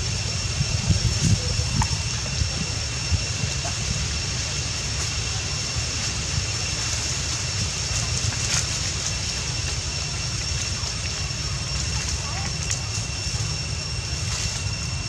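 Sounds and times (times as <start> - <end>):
high-pitched whine: 0.0 - 15.0
wind buffeting microphone: 0.0 - 15.0.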